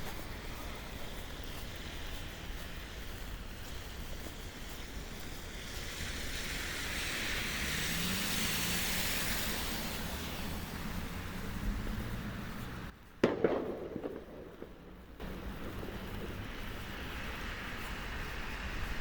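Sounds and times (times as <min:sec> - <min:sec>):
rain: 0:00.0 - 0:19.0
traffic: 0:00.0 - 0:19.0
tyre hiss on wet street: 0:00.0 - 0:19.0.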